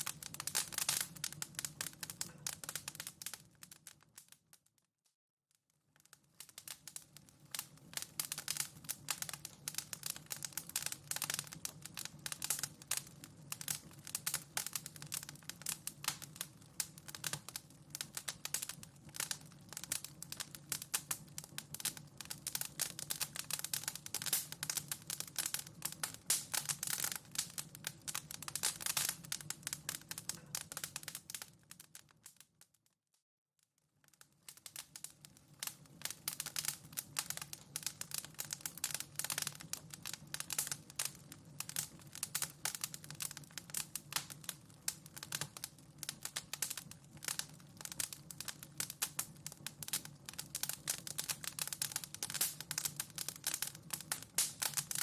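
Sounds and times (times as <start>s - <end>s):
wood fire crackling: 0.0s - 4.8s, 5.7s - 32.8s, 33.9s - 55.0s.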